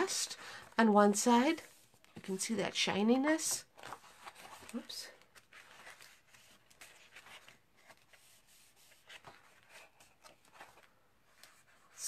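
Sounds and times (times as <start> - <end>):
paper sheets rustling: 0.0 - 12.0.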